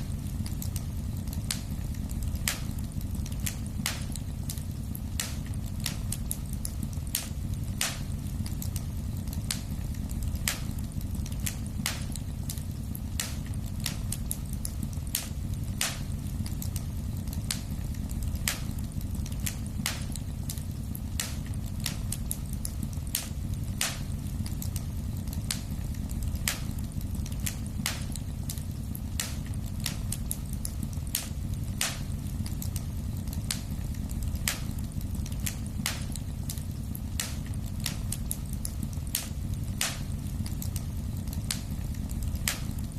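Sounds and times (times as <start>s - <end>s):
fire crackling and popping: 0.0s - 42.9s
fire rumbling: 0.0s - 42.9s.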